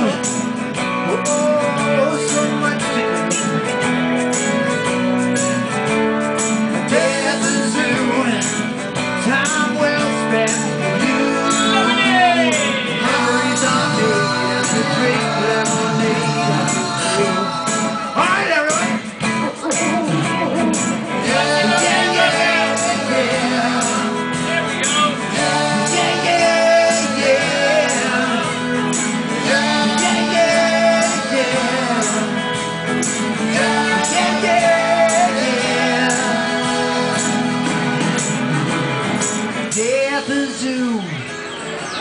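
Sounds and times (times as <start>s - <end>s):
upbeat children's song over speakers: 0.0s - 42.0s.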